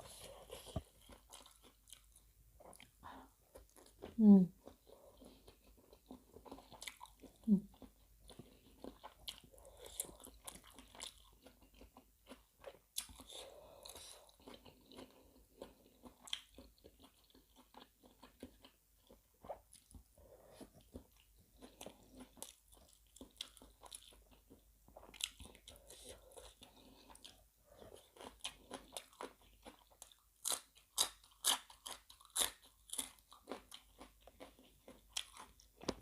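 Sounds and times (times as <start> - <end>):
crunching and wet chewing: 0.0 - 36.0.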